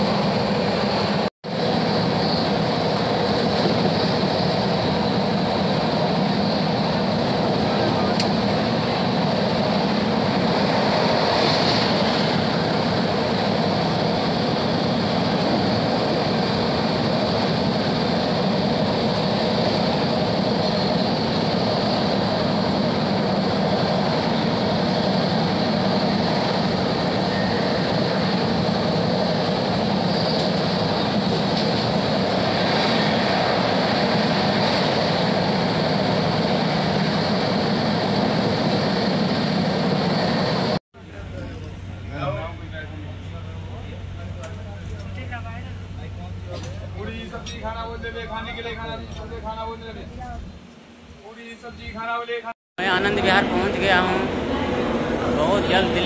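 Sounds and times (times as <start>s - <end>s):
train rumble from inside coach: 0.0s - 56.0s.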